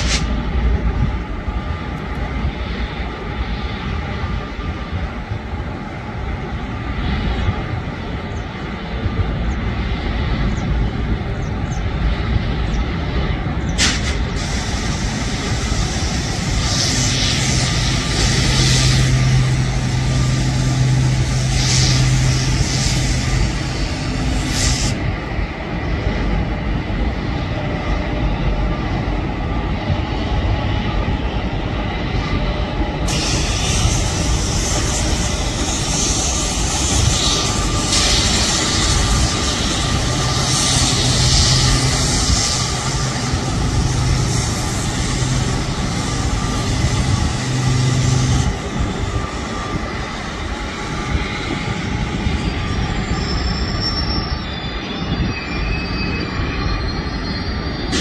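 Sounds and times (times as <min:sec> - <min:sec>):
train wheels rumbling on bridge: 0:00.0 - 0:58.0
low hum: 0:05.7 - 0:53.7.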